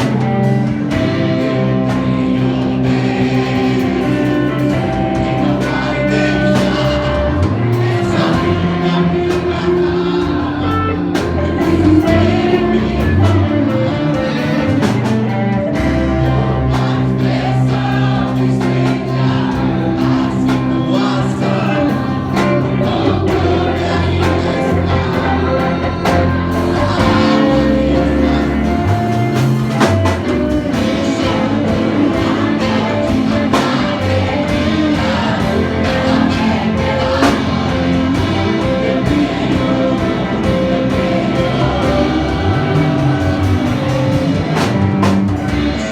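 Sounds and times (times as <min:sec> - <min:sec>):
choir-like singing: 0:00.0 - 0:45.9
gospel band playing: 0:00.0 - 0:45.9.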